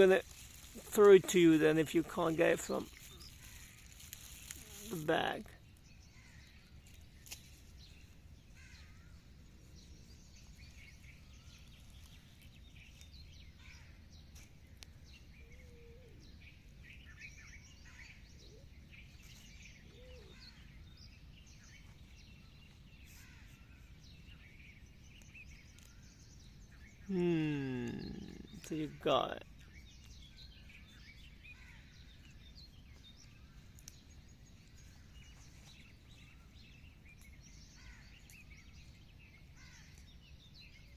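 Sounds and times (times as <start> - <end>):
distant birds chirping: 0.0 - 40.9.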